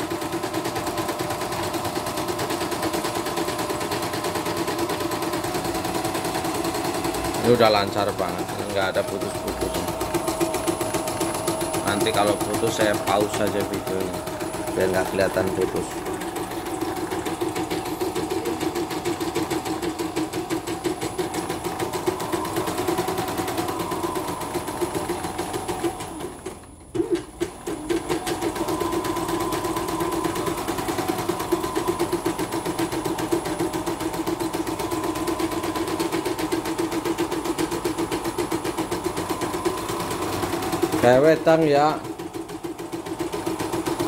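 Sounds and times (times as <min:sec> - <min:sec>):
embroidery machine stitching: 0:00.0 - 0:44.0.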